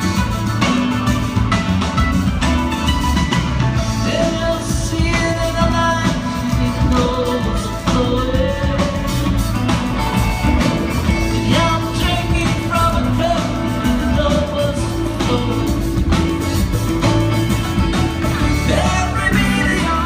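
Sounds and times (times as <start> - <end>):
live band playing: 0.0 - 20.0
melodic lead lines: 0.0 - 20.0.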